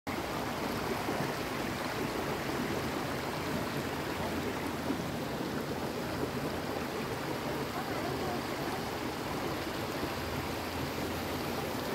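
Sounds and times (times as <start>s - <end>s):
river water rushing: 0.1s - 11.9s.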